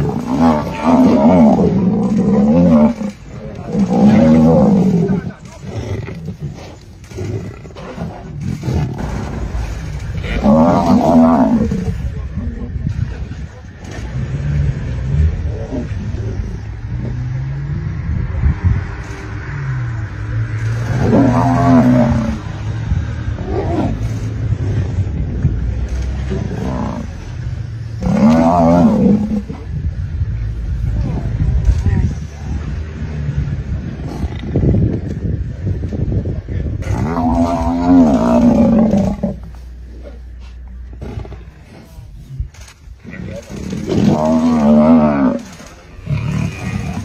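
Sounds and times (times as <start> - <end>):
low rough growling: 0.0 - 47.0.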